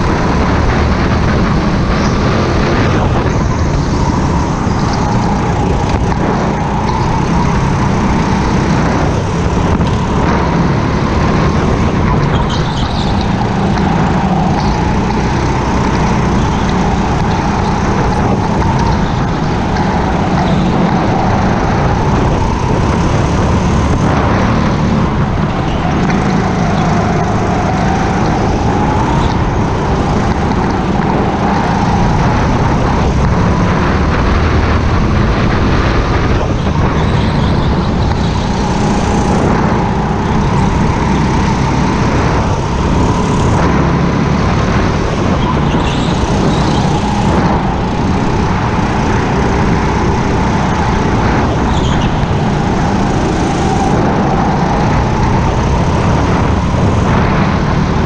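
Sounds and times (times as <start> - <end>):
go-kart engine: 0.0 - 58.0.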